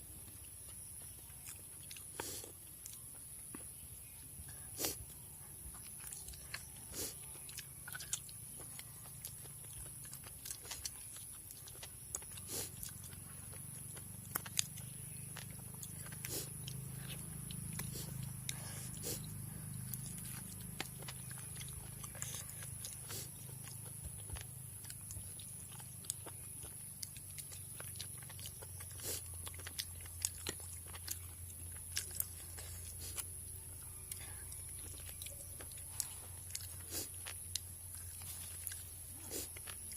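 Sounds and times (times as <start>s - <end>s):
low steady hum: 0.0s - 39.9s
person chewing food: 0.0s - 39.9s.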